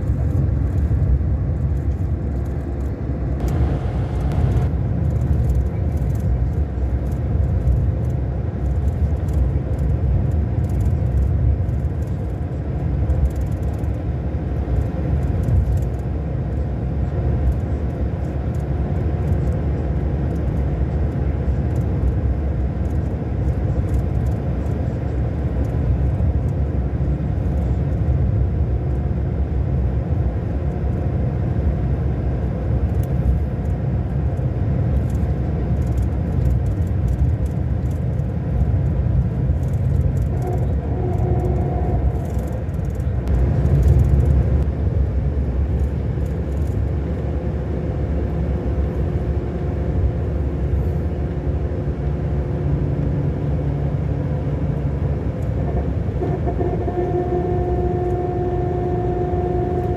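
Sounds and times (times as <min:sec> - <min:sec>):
diesel bus engine running: 0:00.0 - 0:59.9.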